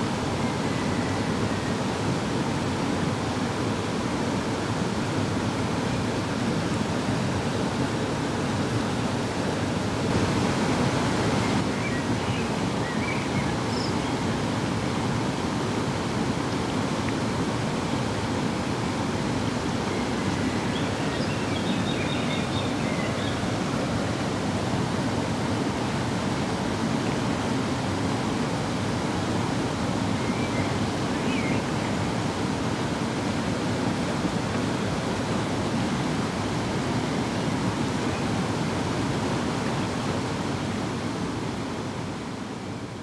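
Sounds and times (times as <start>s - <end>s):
fast-flowing stream rushing: 0.0s - 43.0s.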